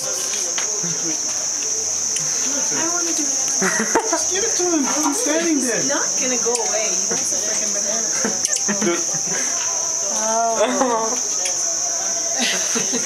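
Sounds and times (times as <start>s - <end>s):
crickets trilling: 0.0s - 13.0s
voices: 0.0s - 13.0s.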